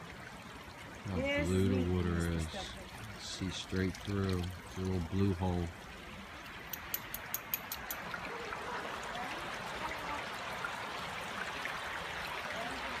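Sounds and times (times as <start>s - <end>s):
water running over rocks: 0.0s - 13.0s.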